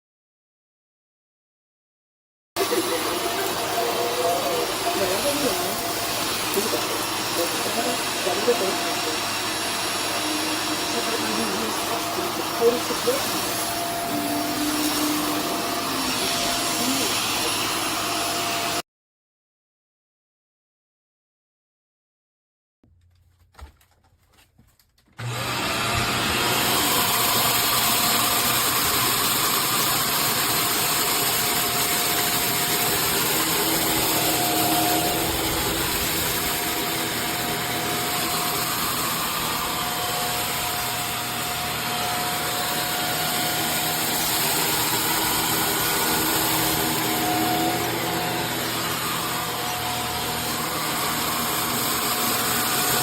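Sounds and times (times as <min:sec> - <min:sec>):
vacuum cleaner motor whining: 0:02.6 - 0:18.8, 0:25.2 - 0:53.0.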